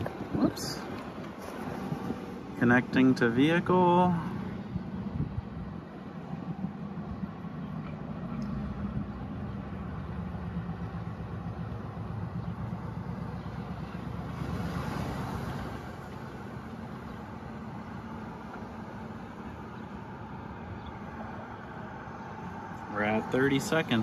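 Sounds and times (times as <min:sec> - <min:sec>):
background traffic noise: 0:00.0 - 0:24.0.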